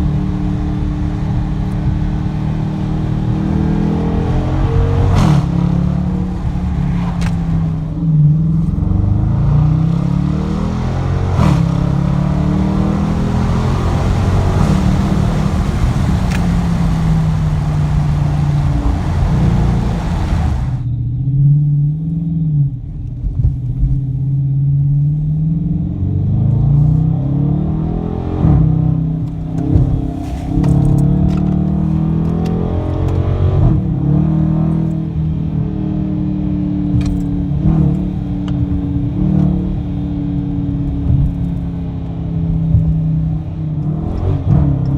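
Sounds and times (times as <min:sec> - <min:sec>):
car engine revving: 0:00.0 - 0:22.8, 0:24.8 - 0:44.9.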